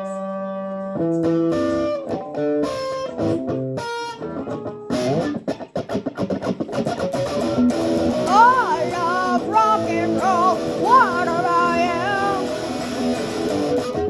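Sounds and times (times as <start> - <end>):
electric guitar picked notes: 0.0 - 14.0.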